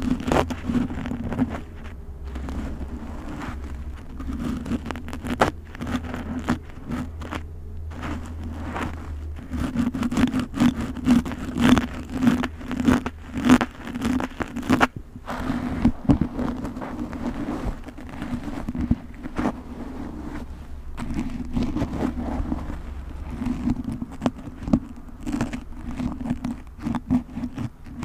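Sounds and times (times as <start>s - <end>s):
low hum: 0.0s - 28.0s
tool scratching through hair: 0.0s - 28.0s.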